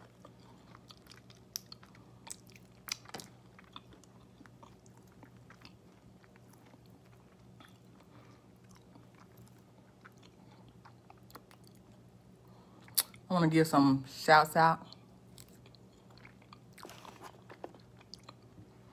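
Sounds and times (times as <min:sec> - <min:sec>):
person chewing: 0:00.0 - 0:13.2, 0:14.9 - 0:18.9
faint low hum: 0:00.0 - 0:18.9.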